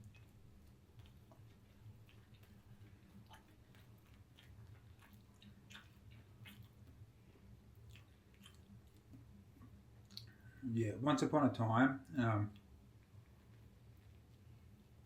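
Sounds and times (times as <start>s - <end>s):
person chewing food: 0.0s - 10.6s, 12.5s - 15.0s
soft mouth clicks and smacks: 0.0s - 10.6s, 12.5s - 15.0s.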